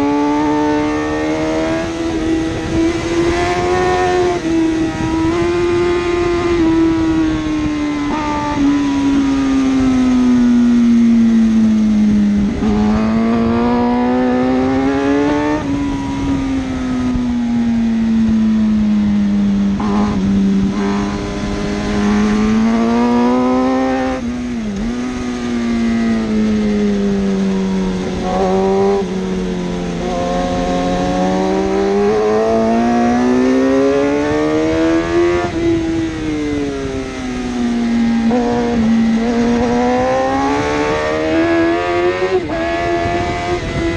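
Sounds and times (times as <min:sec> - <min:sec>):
superbike engine accelerating: 0:00.0 - 0:43.9.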